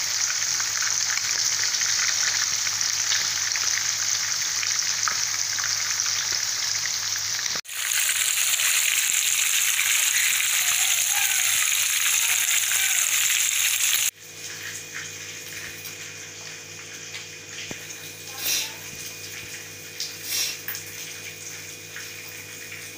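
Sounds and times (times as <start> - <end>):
oil sizzling in a pan: 0.0 - 22.9.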